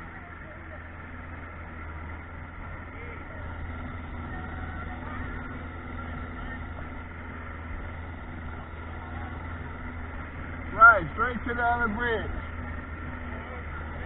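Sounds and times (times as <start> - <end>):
boat motor droning: 0.0 - 14.0.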